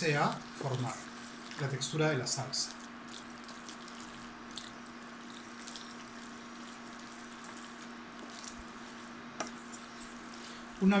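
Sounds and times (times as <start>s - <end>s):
pasta simmering in a pan: 0.0s - 11.0s
steady low hum: 0.0s - 11.0s.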